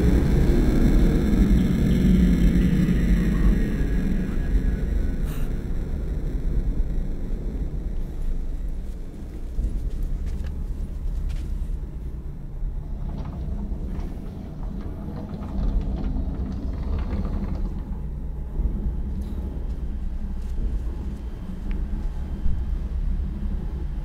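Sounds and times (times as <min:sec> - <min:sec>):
low rumbling drone: 0:00.0 - 0:24.0.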